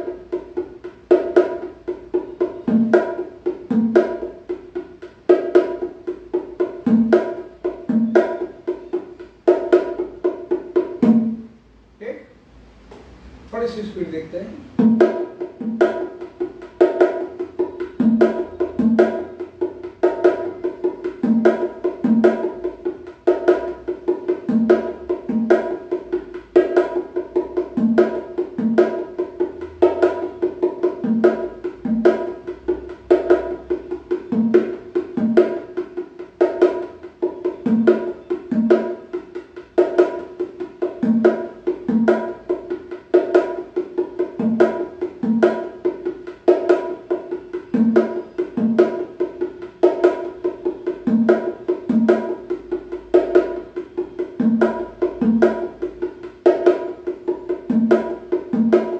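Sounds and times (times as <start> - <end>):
bongo drums played by hand: 0.0 - 12.2, 12.8 - 58.9.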